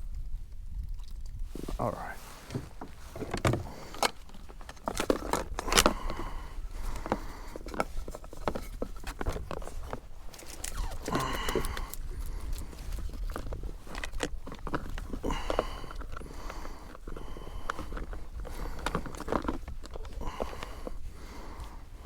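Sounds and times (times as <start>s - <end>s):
fishing gear clicks and rattles: 0.9s - 22.0s.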